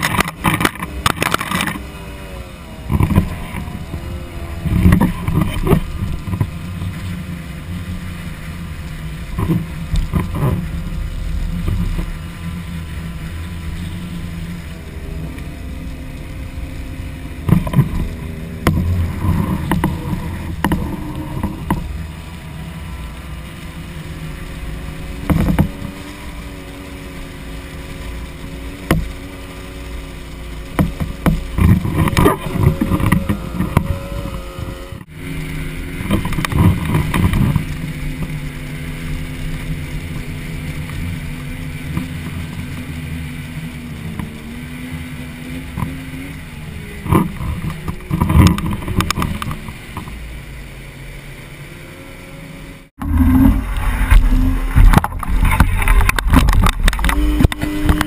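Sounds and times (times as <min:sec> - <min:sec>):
wind on microphone: 0:00.0 - 0:39.0, 0:39.6 - 0:50.3, 0:52.9 - 0:58.0
outboard motor running: 0:00.0 - 0:58.0
water rushing against hull: 0:00.0 - 0:58.0.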